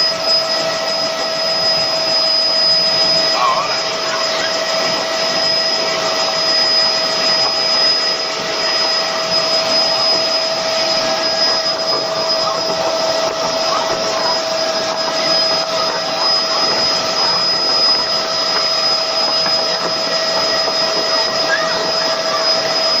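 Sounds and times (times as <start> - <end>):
helicopter rotor rushing noise: 0.0 - 23.0
helicopter turbine whine: 0.0 - 23.0.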